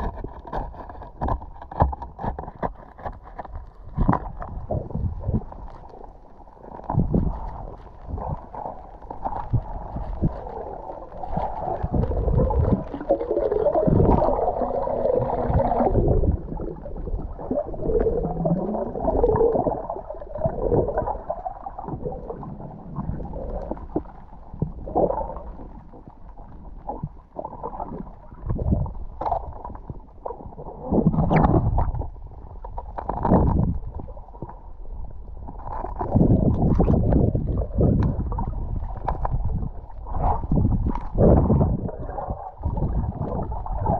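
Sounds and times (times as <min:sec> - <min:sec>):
underwater gurgling and bubbling: 0:00.0 - 0:43.9.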